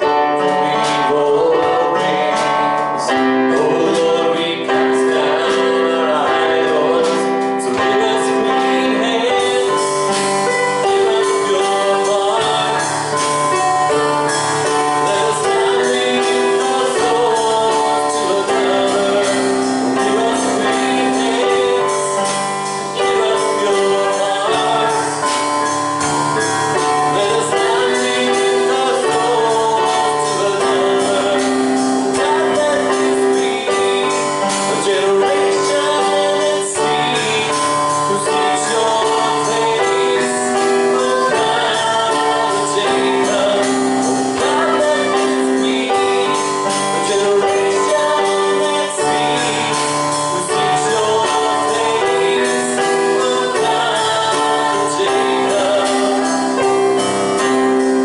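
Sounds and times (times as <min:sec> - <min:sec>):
slow gospel worship music: 0:00.0 - 0:58.0
voices singing: 0:00.0 - 0:58.0.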